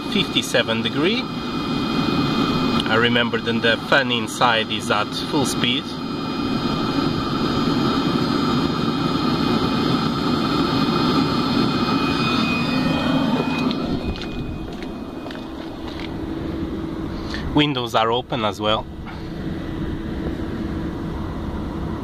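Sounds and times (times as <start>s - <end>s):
heater burner and air rush: 0.0s - 22.0s
high fan whine: 0.0s - 22.0s.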